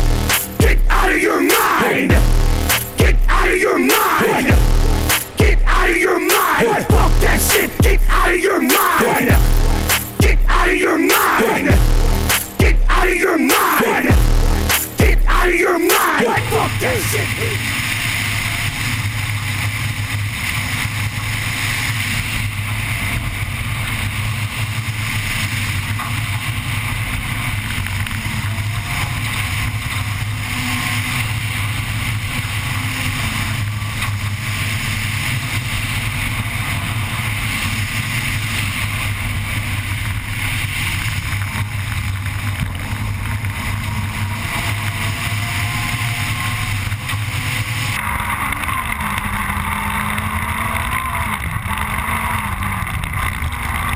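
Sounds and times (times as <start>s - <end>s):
rally car engine running hard: 0.0s - 53.9s.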